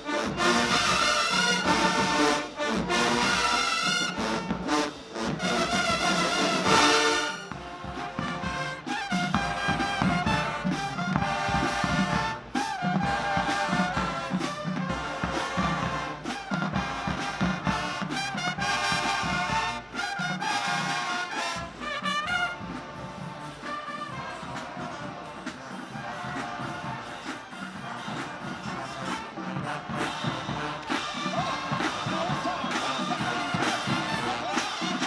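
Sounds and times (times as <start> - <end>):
marching band brass: 0.0 - 35.0.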